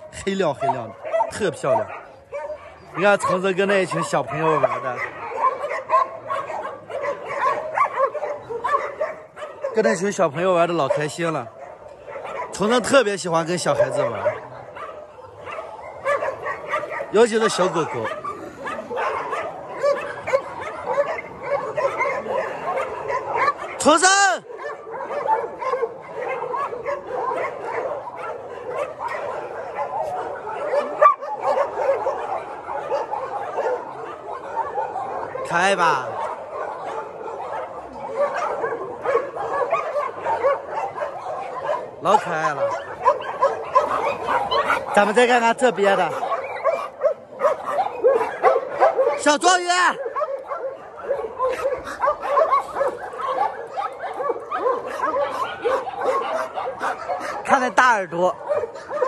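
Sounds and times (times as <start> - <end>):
dogs barking and yelping: 0.0 - 59.0.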